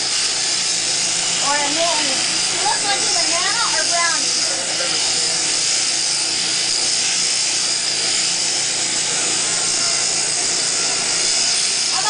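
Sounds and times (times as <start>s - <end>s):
electric shears buzzing: 0.0s - 12.0s.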